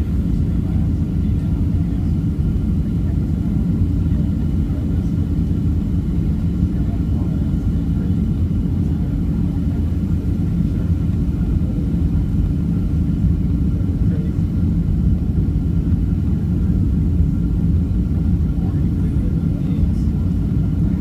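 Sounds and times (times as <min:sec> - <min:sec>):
airliner cabin engine rumble: 0:00.0 - 0:21.0
faint steady whine: 0:00.0 - 0:21.0.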